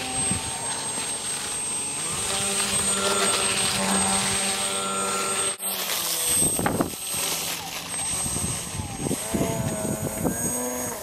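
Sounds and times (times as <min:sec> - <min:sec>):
electric motor and propeller whine: 0:00.0 - 0:11.0.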